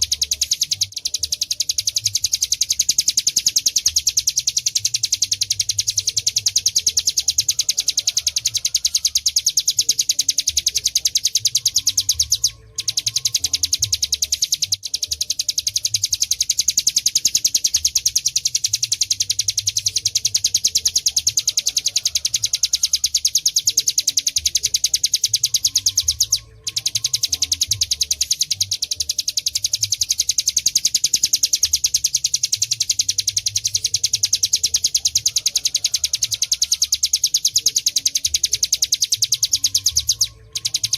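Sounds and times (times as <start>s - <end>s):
bird singing rapid rattling trill: 0.0s - 40.9s.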